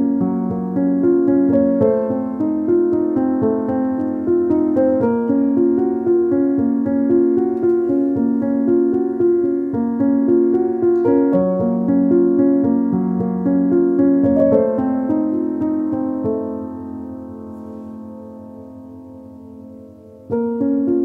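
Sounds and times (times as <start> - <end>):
background piano music: 0.0 - 21.0.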